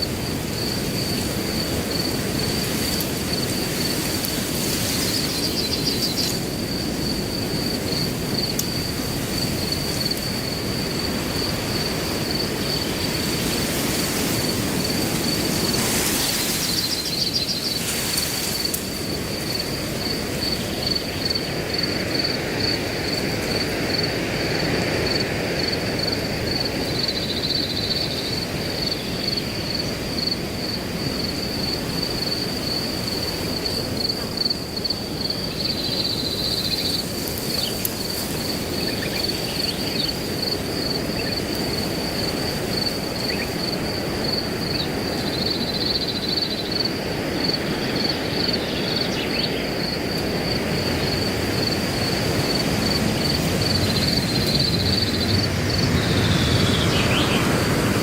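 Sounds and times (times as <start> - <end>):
crickets chirping: 0.0 - 58.0
wind blowing through grass: 0.0 - 58.0.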